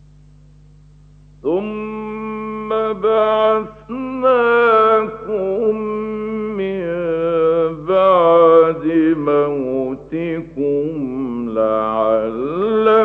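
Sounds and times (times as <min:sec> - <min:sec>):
faint low hum: 0:00.0 - 0:13.0
man chanting melodically: 0:01.4 - 0:13.0.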